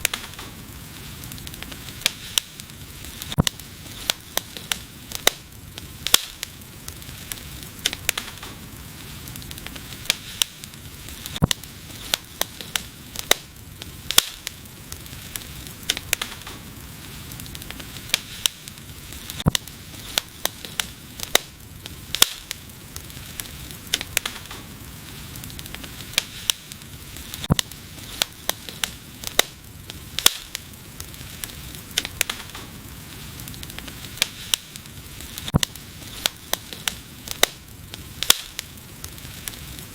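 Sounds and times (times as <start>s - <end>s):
soft hiss: 0.0s - 39.9s
wood fire popping and crackling: 0.0s - 39.9s.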